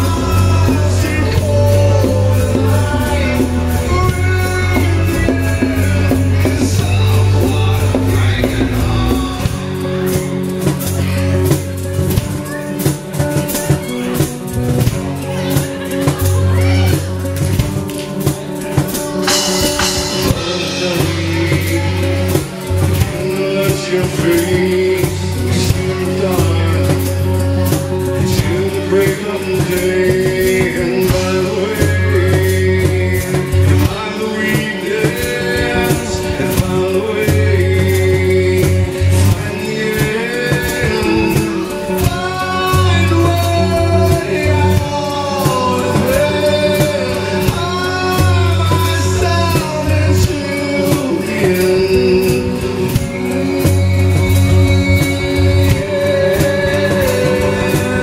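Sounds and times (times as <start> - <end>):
acoustic guitar strummed: 0.0 - 58.0
bass guitar: 0.0 - 58.0
man singing: 0.0 - 58.0
second guitar: 0.0 - 58.0.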